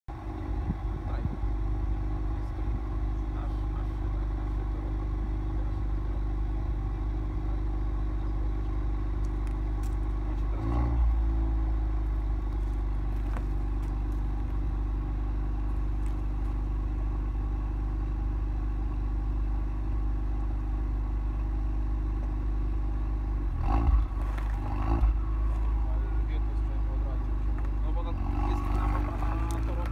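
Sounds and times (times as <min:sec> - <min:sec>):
car engine idling and revving: 0:00.1 - 0:29.9.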